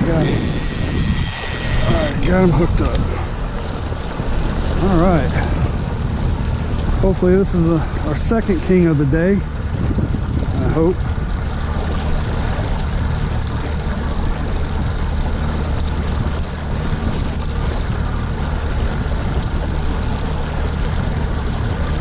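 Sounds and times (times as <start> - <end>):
outboard motor droning: 0.0 - 22.0
water rushing in boat wake: 0.0 - 22.0.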